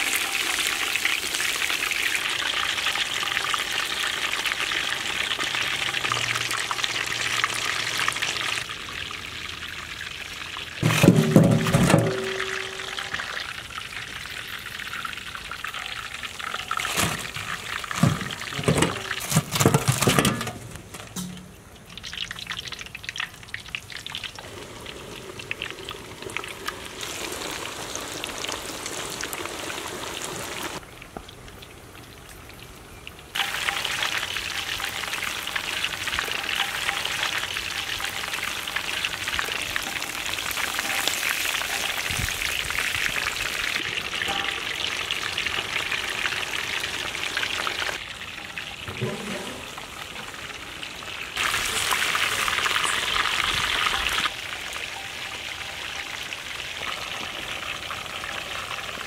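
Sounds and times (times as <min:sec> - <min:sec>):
oil sizzling and bubbling: 0:00.0 - 0:59.0.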